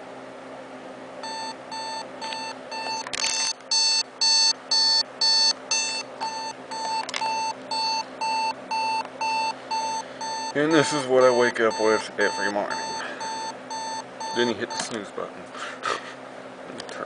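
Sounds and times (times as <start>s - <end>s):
alarm clock beeping: 1.2s - 14.9s.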